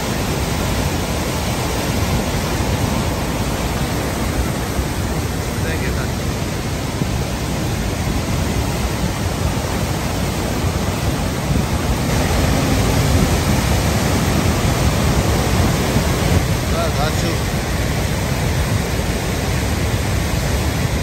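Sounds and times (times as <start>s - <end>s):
floodwater rushing roar: 0.0s - 21.0s.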